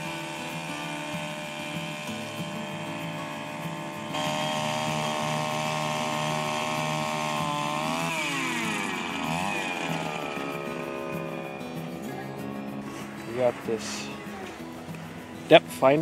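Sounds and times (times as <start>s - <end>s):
two-stroke ice auger engine: 0.0s - 16.0s.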